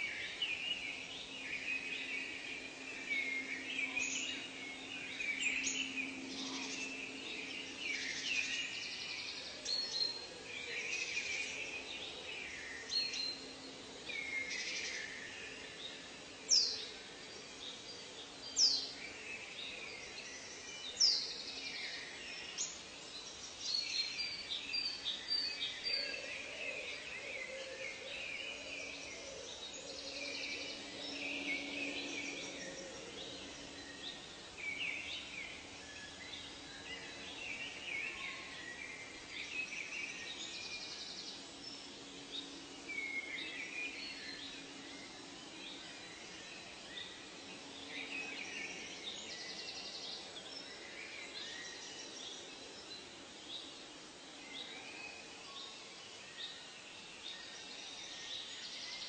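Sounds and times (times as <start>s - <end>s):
wild birds calling and singing: 0.0s - 59.0s.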